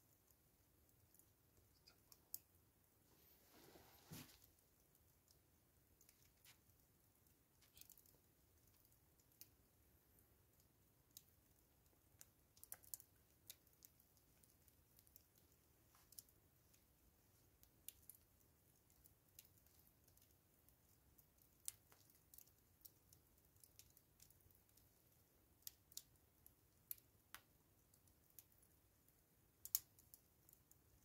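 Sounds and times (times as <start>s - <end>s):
charcoal embers crackling: 0.0s - 31.0s.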